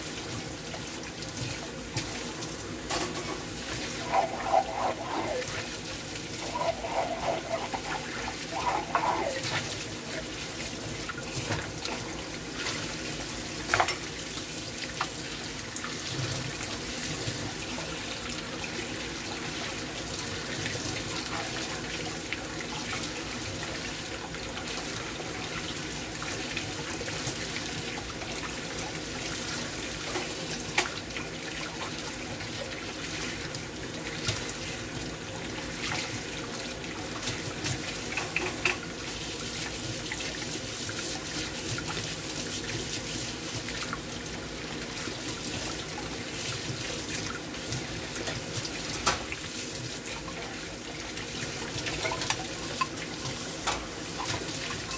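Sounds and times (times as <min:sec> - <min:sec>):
tap water running onto dishes: 0:00.0 - 0:54.9.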